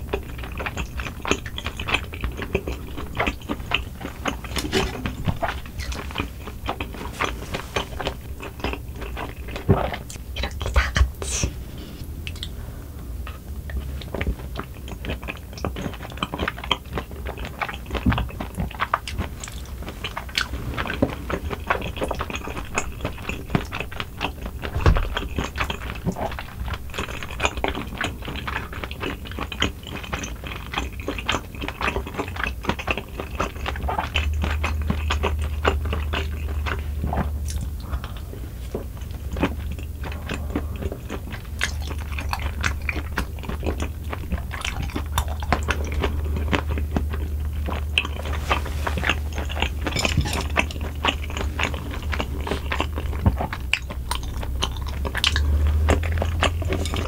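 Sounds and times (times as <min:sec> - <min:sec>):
wet chewing mouth clicks: 0:00.0 - 0:57.0.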